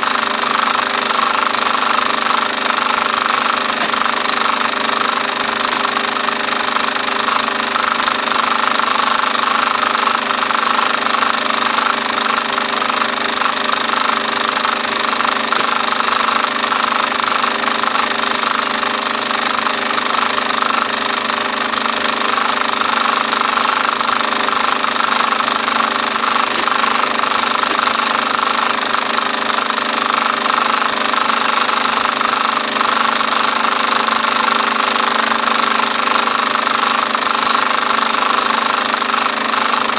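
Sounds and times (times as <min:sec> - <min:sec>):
film projector clatter and whir: 0:00.0 - 0:39.9.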